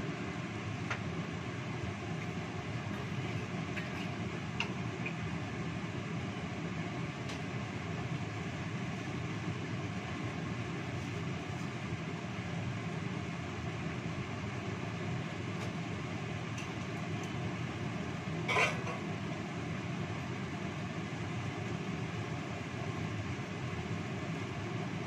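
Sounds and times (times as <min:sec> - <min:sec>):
gas burner running: 0:00.0 - 0:25.0
sauce simmering in wok: 0:00.0 - 0:25.0.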